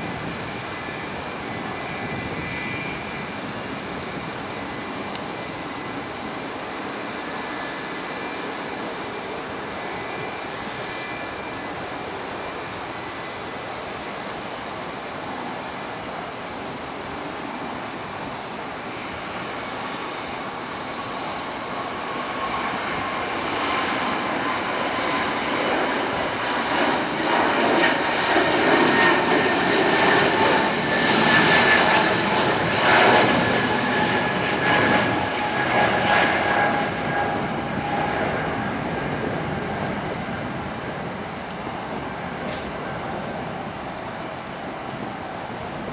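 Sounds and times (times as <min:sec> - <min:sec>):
jet engines rushing: 0:00.0 - 0:45.9.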